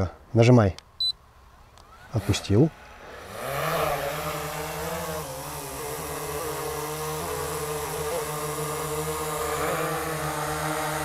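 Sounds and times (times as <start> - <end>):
drone propellers humming: 1.9 - 11.0.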